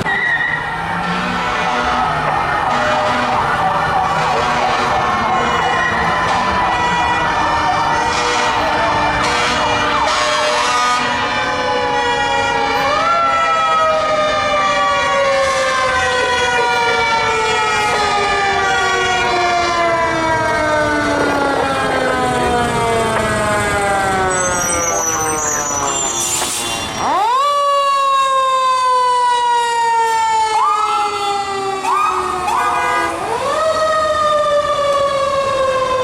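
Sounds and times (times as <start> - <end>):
fire engine siren wailing: 0.0 - 36.0.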